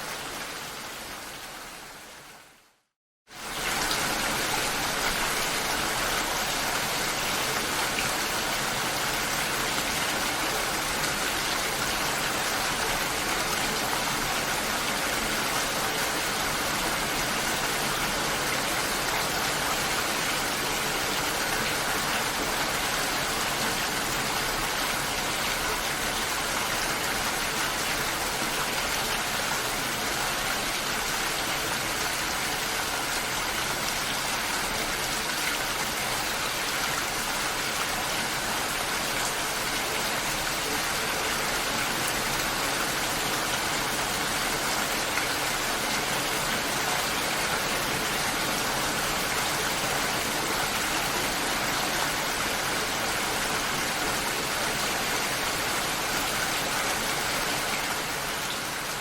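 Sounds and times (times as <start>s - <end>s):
steady heavy rain hiss: 0.0s - 59.0s.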